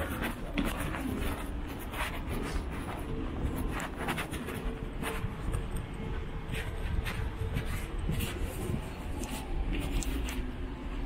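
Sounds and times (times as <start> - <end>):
faint steady hum: 0.0 - 11.0
low rumble of city traffic: 0.0 - 11.0.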